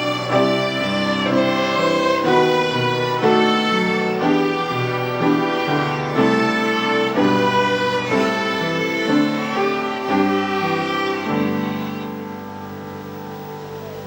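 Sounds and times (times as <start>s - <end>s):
children's violin ensemble: 0.0s - 14.0s.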